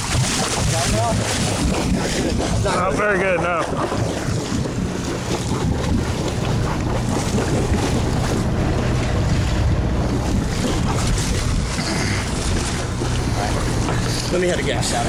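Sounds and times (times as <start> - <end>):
boat engine running: 0.0 - 15.0
sea wash: 0.0 - 15.0
wind buffeting microphone: 0.0 - 15.0.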